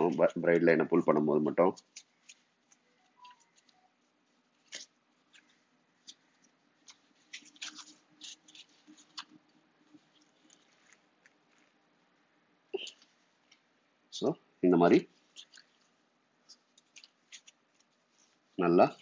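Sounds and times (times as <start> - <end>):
gloved hands handling fishing line: 0.0 - 14.1, 15.0 - 19.0.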